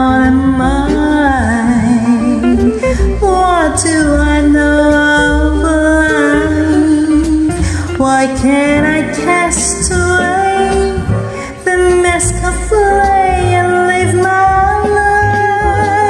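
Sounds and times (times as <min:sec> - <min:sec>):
reggae backing track: 0:00.0 - 0:16.0
woman singing karaoke: 0:00.0 - 0:16.0.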